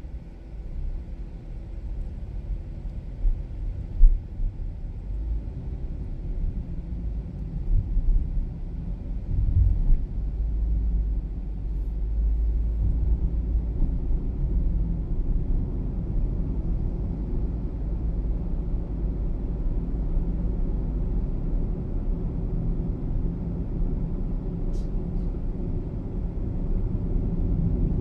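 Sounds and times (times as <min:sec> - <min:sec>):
engine and tyre rumble inside car: 0:00.0 - 0:28.0.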